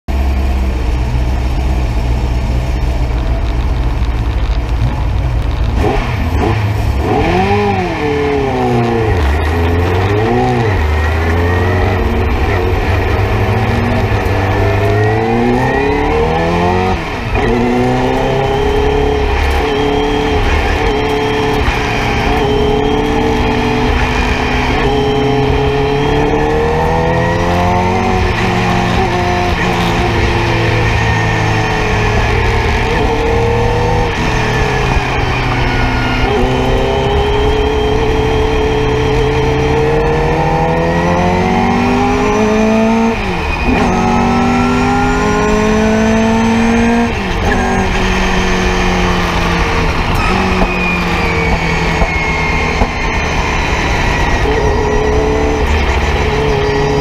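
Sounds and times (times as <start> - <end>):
race car engine revving: 0.1 - 57.0.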